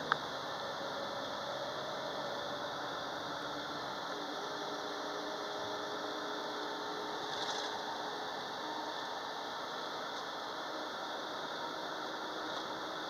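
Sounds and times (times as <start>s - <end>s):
road and engine noise inside vehicle: 0.0s - 13.0s.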